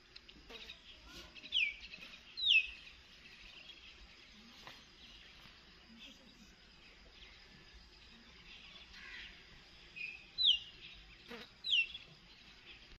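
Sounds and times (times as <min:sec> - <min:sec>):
faint high chirping: 0:00.5 - 0:13.0.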